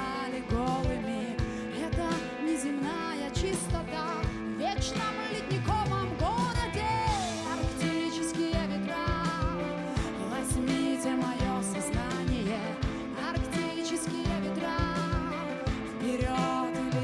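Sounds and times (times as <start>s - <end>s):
guitar: 0.0s - 17.0s
person singing: 0.0s - 17.0s
steady drum beat: 0.0s - 17.0s.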